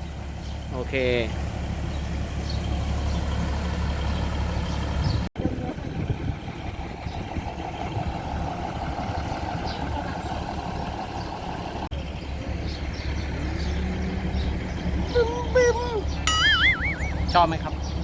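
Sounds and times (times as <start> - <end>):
diesel train engine rumbling: 0.0 - 16.3.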